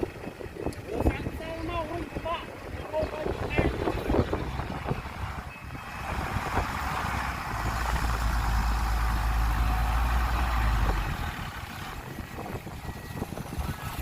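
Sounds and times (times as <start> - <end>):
heavy diesel engine working: 0.0 - 14.0.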